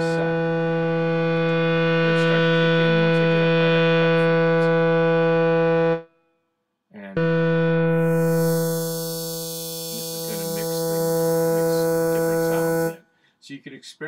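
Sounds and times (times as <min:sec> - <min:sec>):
buzzy synthesizer note: 0:00.0 - 0:06.0, 0:07.2 - 0:13.0.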